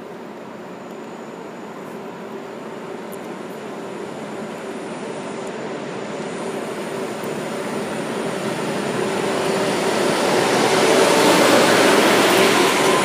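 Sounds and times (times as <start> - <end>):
high-speed train rushing past: 0.0 - 13.0.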